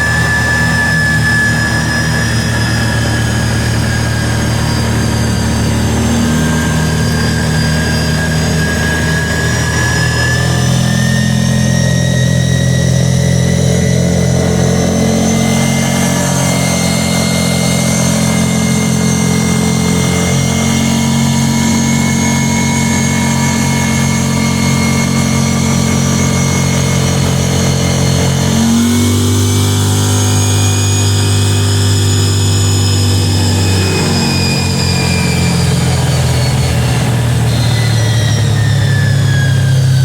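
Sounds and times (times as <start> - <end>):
atv engine running: 0.0 - 40.0
high whine from drive: 0.0 - 40.0.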